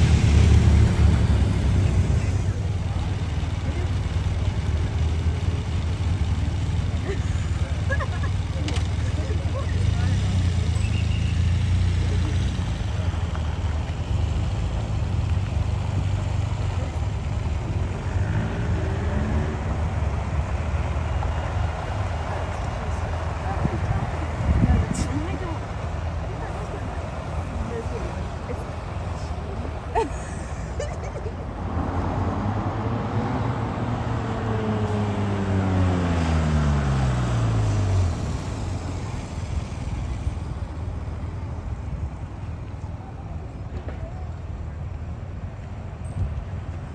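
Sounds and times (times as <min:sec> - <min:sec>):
traffic noise: 0:00.0 - 0:46.9
vehicle engines rumbling: 0:00.0 - 0:46.9.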